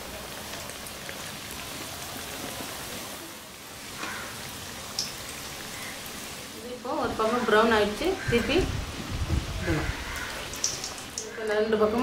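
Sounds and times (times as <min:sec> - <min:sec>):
pastries sizzling in hot oil: 0:00.0 - 0:12.0.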